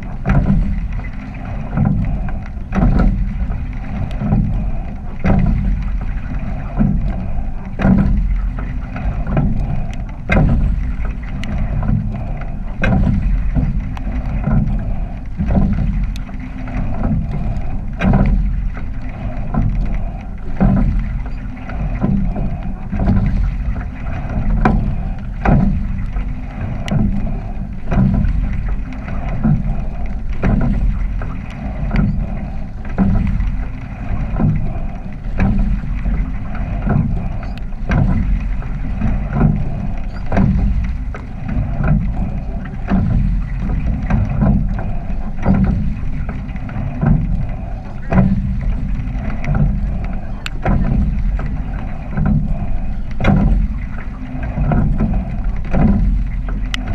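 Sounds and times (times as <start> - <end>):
oars clunking in oarlocks: 0.0 - 56.9
water rushing: 0.0 - 56.9
wind rumble on microphone: 0.0 - 56.9.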